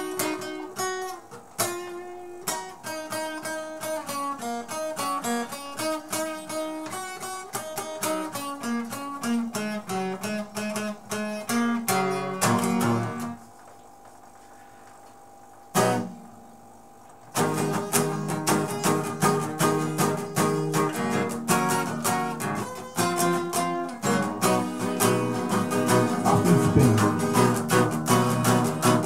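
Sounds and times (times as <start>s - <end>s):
acoustic guitar strumming: 0.0s - 13.4s, 15.7s - 16.4s, 17.3s - 29.0s.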